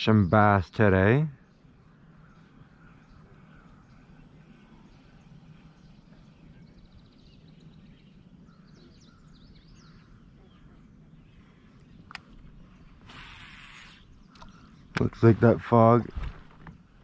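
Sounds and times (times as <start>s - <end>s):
low outdoor rumble: 0.0s - 17.0s
songbird singing: 0.0s - 17.0s.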